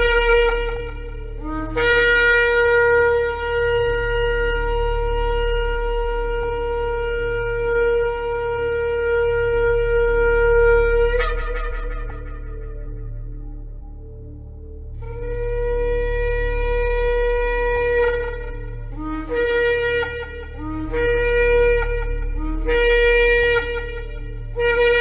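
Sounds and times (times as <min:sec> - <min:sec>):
shofar blasts: 0:00.0 - 0:13.7, 0:15.0 - 0:25.0
steady low hum: 0:00.0 - 0:25.0.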